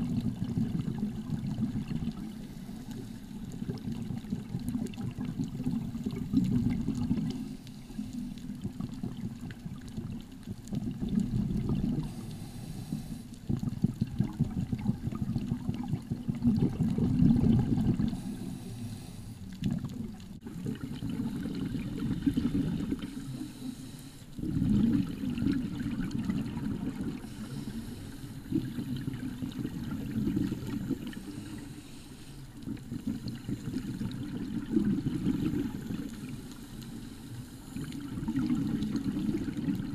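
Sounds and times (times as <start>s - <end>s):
underwater rushing and bubbling: 0.0s - 39.9s.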